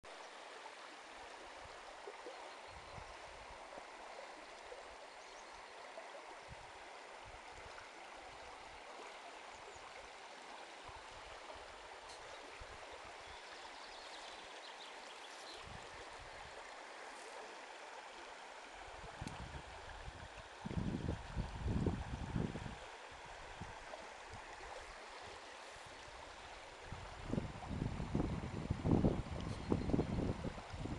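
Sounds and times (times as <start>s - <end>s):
river flowing over stones: 0.1s - 30.9s.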